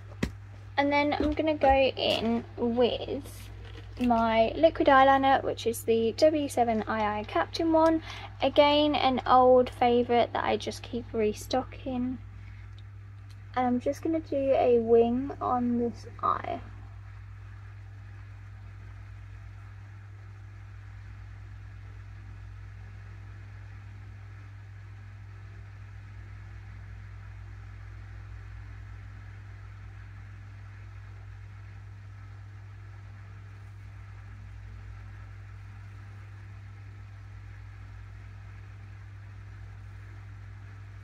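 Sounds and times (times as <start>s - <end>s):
low hum: 0.0s - 41.0s.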